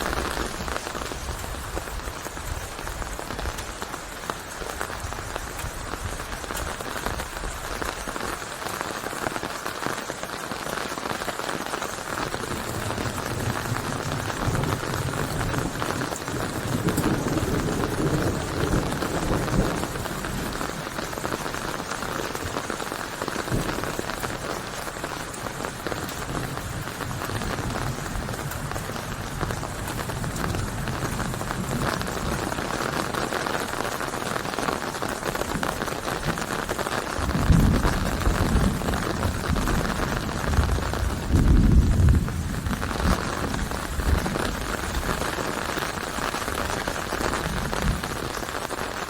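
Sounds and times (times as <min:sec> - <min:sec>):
heavy rain pattering: 0:00.0 - 0:49.0.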